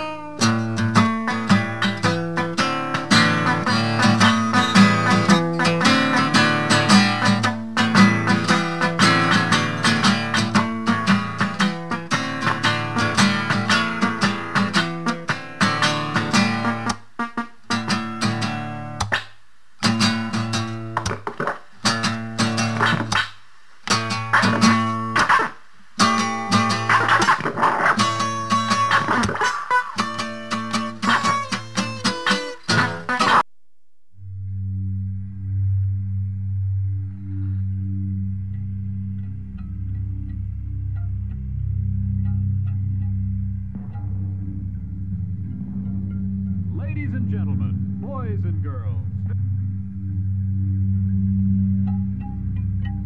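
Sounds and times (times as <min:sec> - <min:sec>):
acoustic guitar plucked and strummed: 0:00.0 - 0:33.4, 0:38.9 - 0:49.7.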